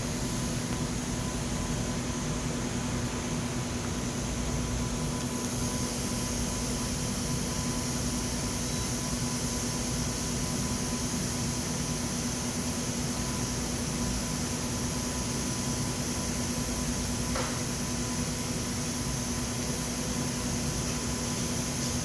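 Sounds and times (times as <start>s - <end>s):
welding machine hum and hiss: 0.0s - 22.0s.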